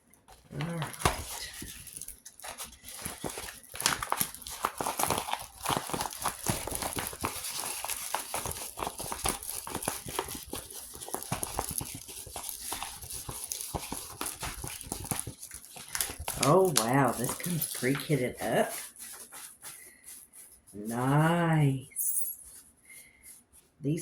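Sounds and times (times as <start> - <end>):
packaging crinkling and rustling: 0.1 - 21.3.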